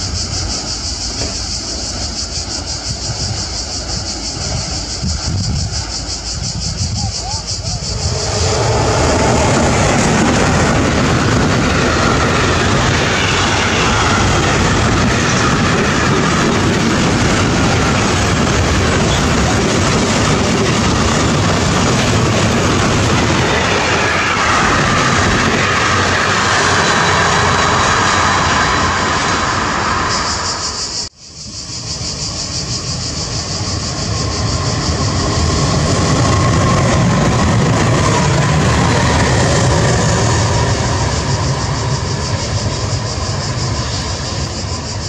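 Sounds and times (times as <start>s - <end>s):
freight train wheels roaring on rails: 0.0s - 45.0s.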